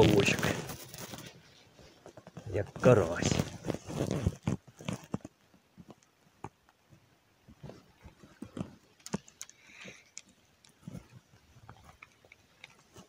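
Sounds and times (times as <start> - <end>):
soft rustle: 0.0 - 13.0.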